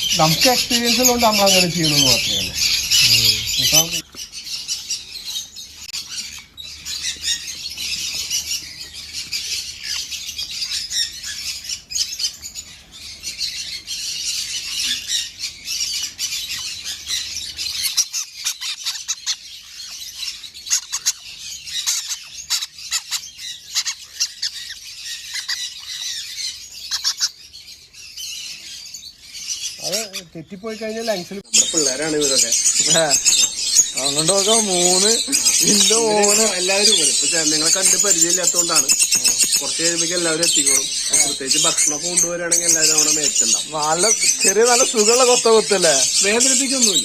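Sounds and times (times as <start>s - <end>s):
parrots chattering and squawking: 0.0s - 47.0s.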